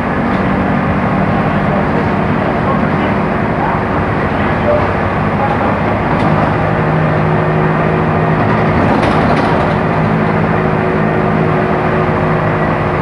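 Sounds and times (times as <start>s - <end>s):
bus diesel engine droning: 0.0s - 13.0s
rattling rumble: 0.0s - 13.0s.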